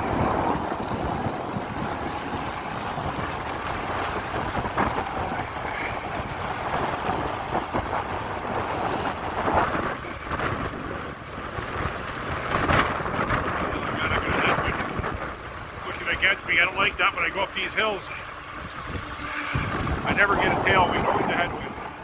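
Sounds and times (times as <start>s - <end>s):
heavy rain falling: 0.0s - 22.0s
wind buffeting microphone: 0.0s - 22.0s.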